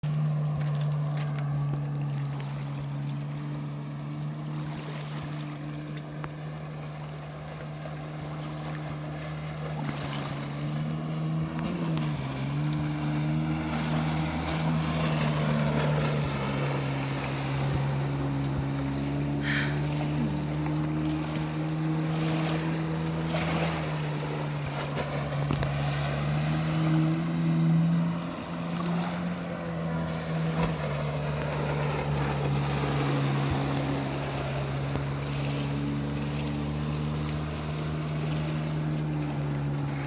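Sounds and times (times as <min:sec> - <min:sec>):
water and wind noise: 0:00.0 - 0:40.0
watercraft engine running: 0:00.0 - 0:40.0.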